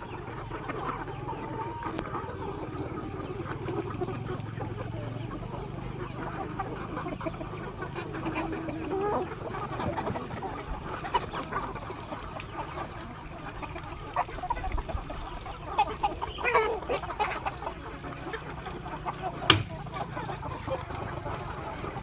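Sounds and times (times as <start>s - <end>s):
chickens clucking: 0.0s - 22.0s
drawn-out chicken call: 0.0s - 22.0s.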